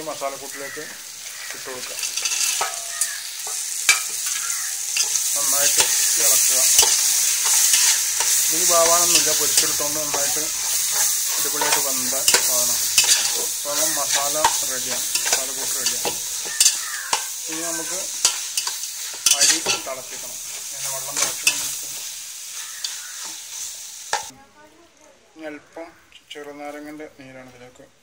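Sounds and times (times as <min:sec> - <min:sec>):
masala sizzling in a pot: 0:00.0 - 0:27.8
spatula scraping a pot: 0:01.8 - 0:24.3.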